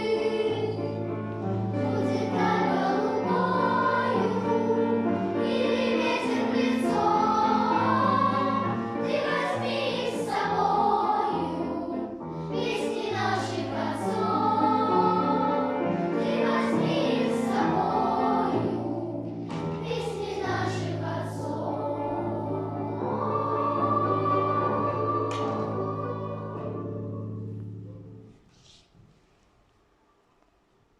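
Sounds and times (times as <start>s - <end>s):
choir singing a slow song: 0.0s - 27.9s.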